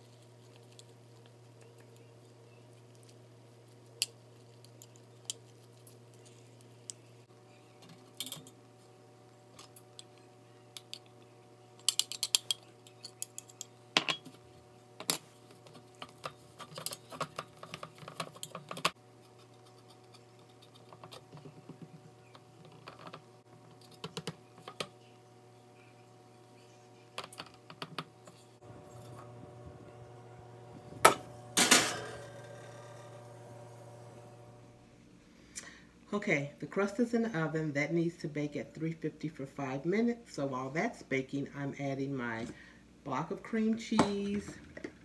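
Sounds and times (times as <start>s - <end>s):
steady low hum: 0.0s - 43.6s.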